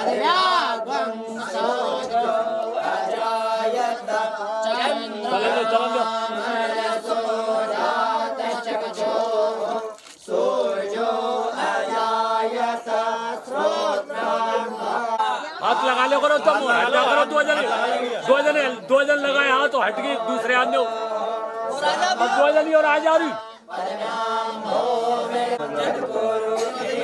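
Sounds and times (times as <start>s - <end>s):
group of voices chanting: 0.0s - 27.0s.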